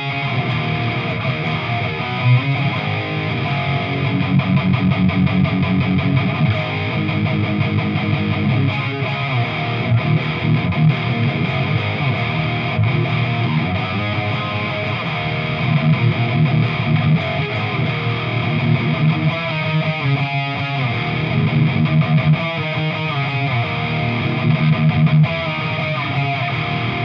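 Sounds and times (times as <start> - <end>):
overdriven electric guitar: 0.0 - 27.0.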